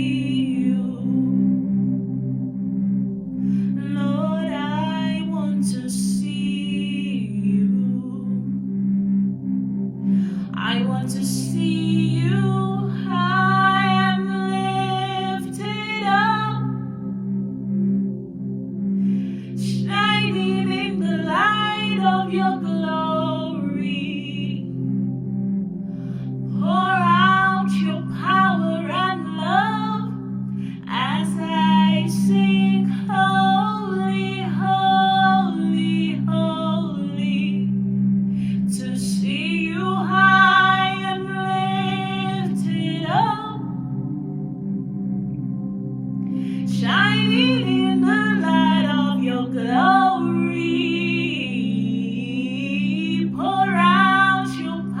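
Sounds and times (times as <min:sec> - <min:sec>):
woman singing slow melody: 0:00.0 - 0:01.9, 0:03.5 - 0:08.6, 0:10.1 - 0:17.2, 0:19.1 - 0:25.2, 0:26.1 - 0:44.0, 0:46.3 - 0:55.0
sustained low drone: 0:00.0 - 0:55.0.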